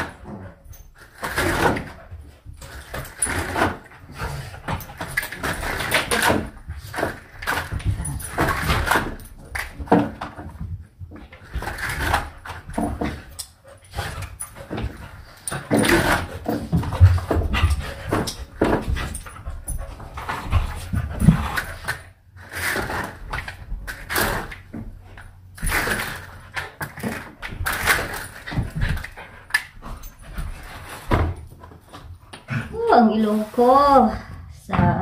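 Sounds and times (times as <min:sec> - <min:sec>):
duster slapping wooden blinds: 0:00.0 - 0:34.1.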